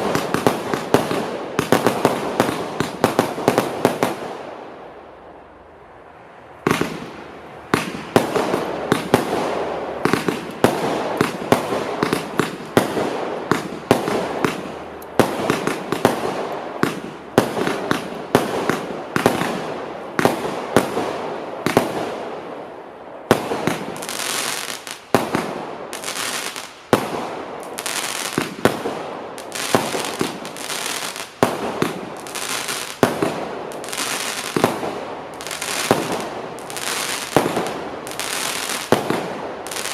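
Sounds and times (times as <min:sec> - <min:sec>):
firework crackling: 0:00.0 - 0:04.5, 0:06.7 - 0:22.6, 0:23.2 - 0:39.9.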